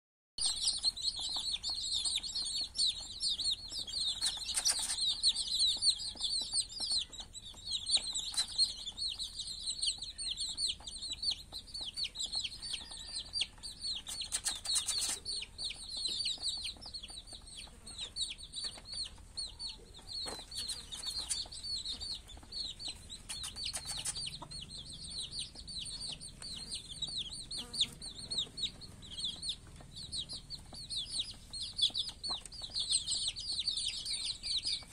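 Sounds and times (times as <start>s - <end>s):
chicks peeping: 0.4s - 34.9s.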